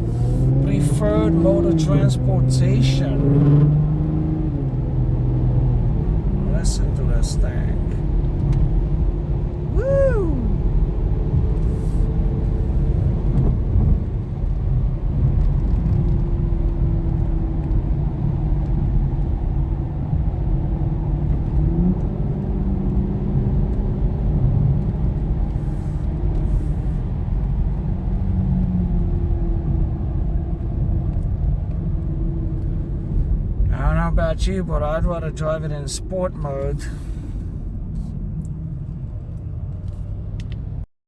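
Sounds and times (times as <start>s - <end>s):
car engine cruising: 0.0s - 40.8s
road rumble: 0.0s - 40.9s.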